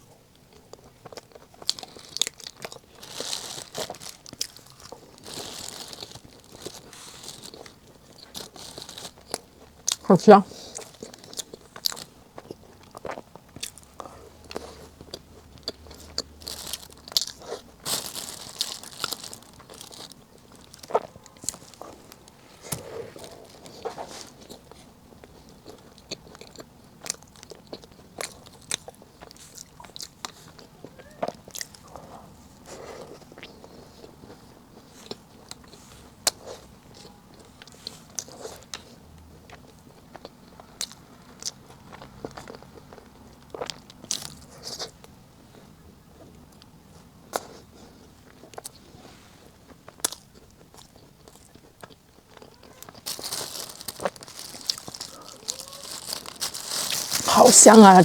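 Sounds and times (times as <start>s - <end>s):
crunches of crisp pastry: 0.0s - 58.0s
chewing: 0.4s - 45.0s, 49.9s - 57.3s.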